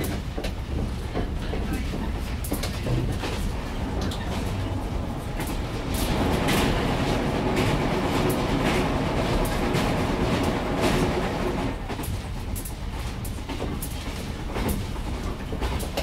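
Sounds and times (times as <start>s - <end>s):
train rumble: 0.0s - 16.0s
wheels clicking over rail joints: 0.0s - 16.0s.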